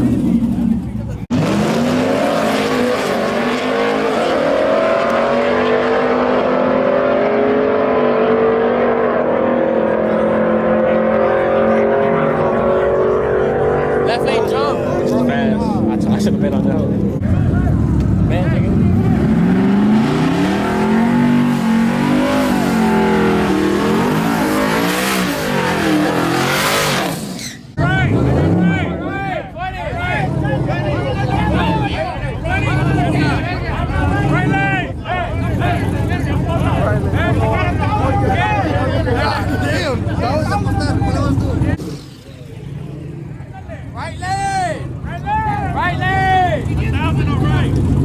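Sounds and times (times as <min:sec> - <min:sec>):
race engine at high revs: 0:00.0 - 0:29.2, 0:30.0 - 0:44.1.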